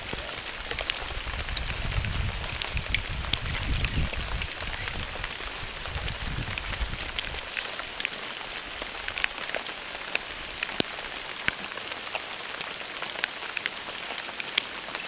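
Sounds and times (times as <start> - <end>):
raindrops ticking nearby: 0.0 - 15.0
steady rain hiss: 0.0 - 15.0.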